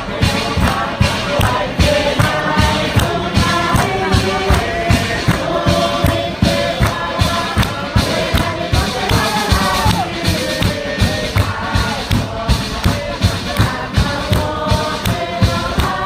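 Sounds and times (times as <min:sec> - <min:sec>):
group singing in unison: 0:00.0 - 0:16.0
hand drumming on wooden box: 0:00.0 - 0:16.0.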